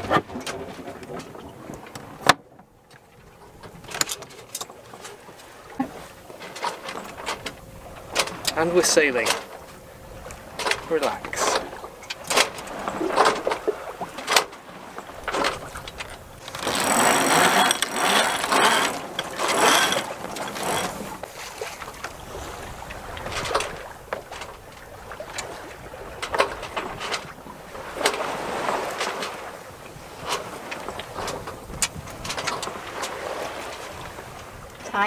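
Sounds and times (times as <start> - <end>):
boat gear clicking and knocking: 0.0 - 22.2, 22.9 - 29.5, 30.1 - 35.0
water washing along hull: 0.0 - 35.0.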